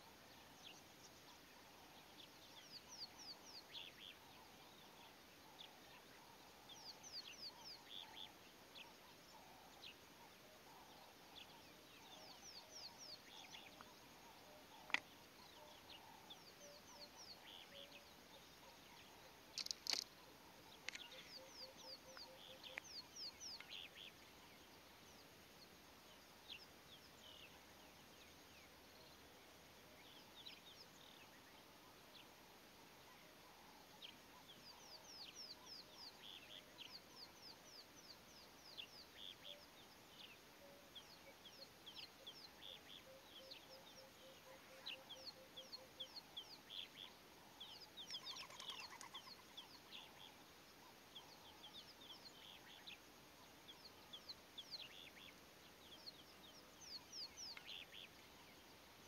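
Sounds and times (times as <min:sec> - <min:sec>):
low evenly spaced bird notes: 0:00.0 - 0:59.0.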